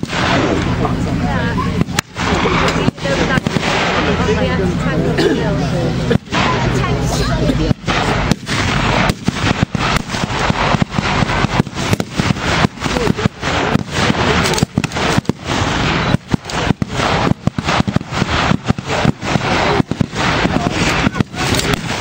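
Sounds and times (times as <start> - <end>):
blank rifle and machine gun fire: 0.0 - 0.9, 1.8 - 4.3, 7.5 - 22.0
steady background noise: 0.0 - 22.0.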